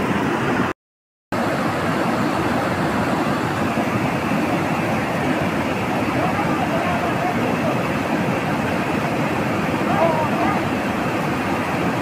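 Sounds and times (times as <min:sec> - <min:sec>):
water rushing over rocks: 0:00.0 - 0:00.7, 0:01.4 - 0:12.0.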